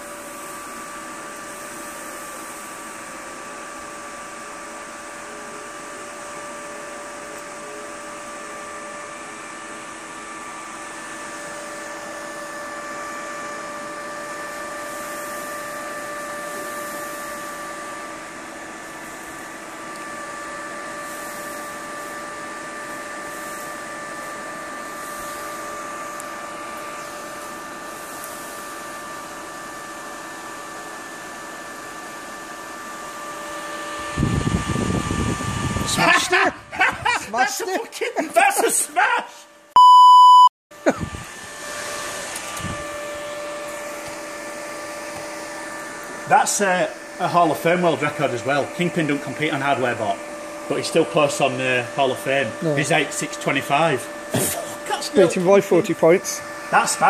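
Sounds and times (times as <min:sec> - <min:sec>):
computer cooling fans whirring: 0:00.0 - 0:39.4, 0:40.8 - 0:57.0.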